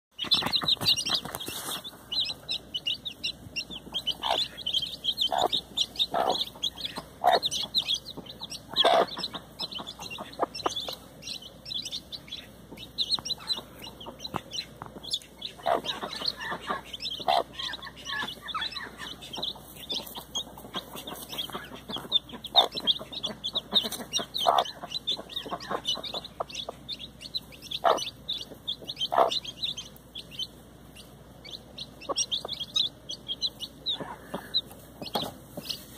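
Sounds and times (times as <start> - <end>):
chicks peeping: 0.1 - 35.9.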